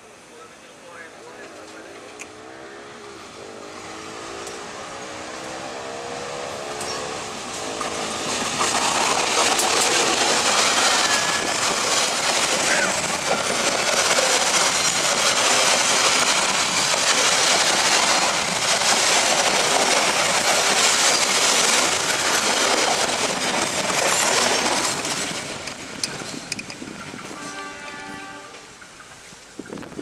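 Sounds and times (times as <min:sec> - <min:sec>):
train wheels rumbling on rails: 0:00.9 - 0:30.0.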